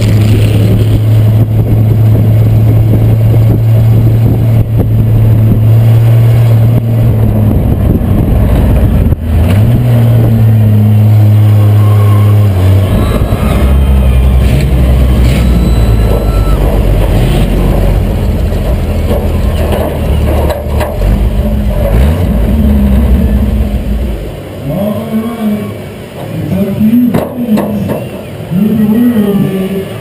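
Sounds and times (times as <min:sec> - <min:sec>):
race car engine running: 0:00.0 - 0:24.6.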